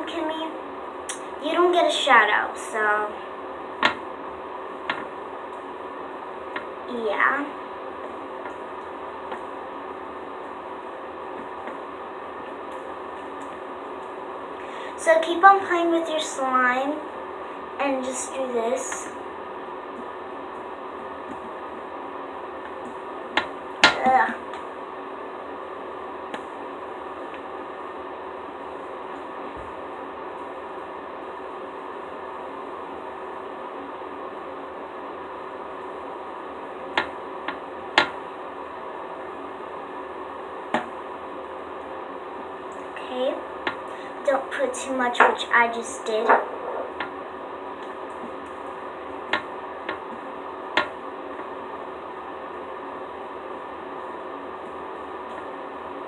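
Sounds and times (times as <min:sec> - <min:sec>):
faint hum: 0:00.0 - 0:56.0
steady background hiss: 0:00.0 - 0:56.0.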